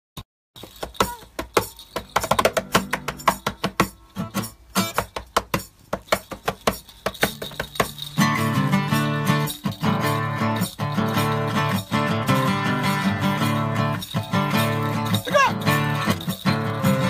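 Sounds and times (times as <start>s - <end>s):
acoustic guitar slapped and plucked: 0.7s - 17.0s.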